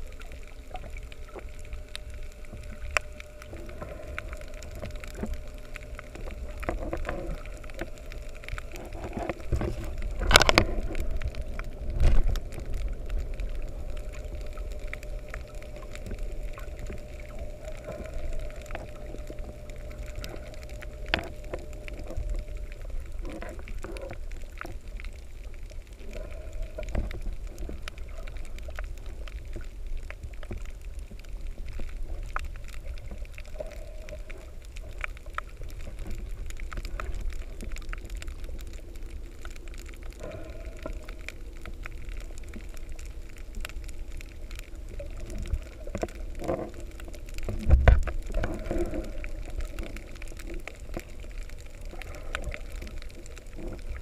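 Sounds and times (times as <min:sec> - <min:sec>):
crackling clicks: 0:00.0 - 0:54.0
muffled gurgling: 0:00.0 - 0:54.0
underwater rumble: 0:00.0 - 0:54.0.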